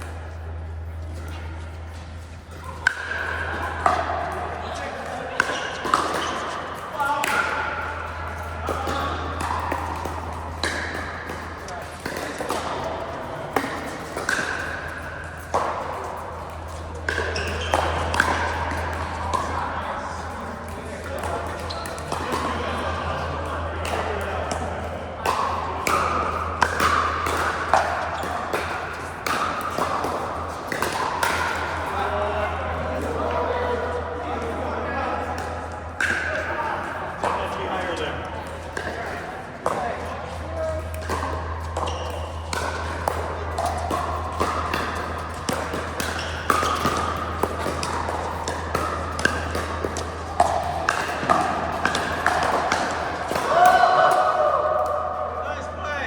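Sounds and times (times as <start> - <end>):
paddles hitting ball: 0.0 - 33.7, 34.3 - 55.0.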